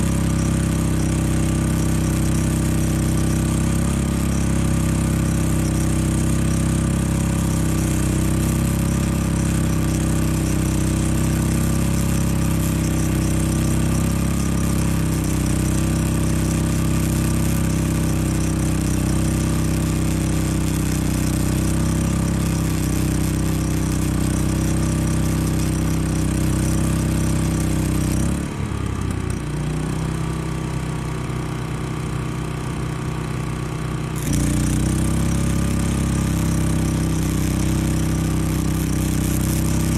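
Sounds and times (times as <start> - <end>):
welder arc crackling and hissing: 0.0 - 28.4, 34.2 - 39.9
generator engine running: 0.0 - 39.9.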